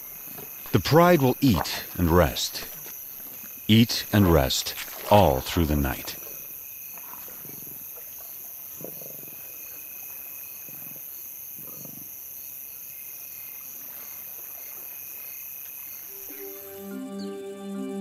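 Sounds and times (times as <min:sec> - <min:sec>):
crickets chirring: 0:00.0 - 0:17.3.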